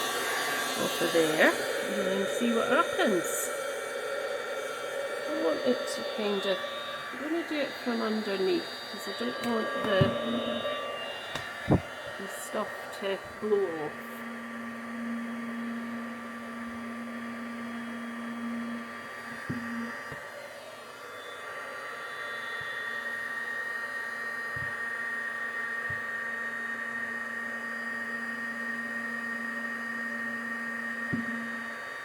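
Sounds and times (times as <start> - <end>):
heat tool fan whining: 0.0 - 32.0.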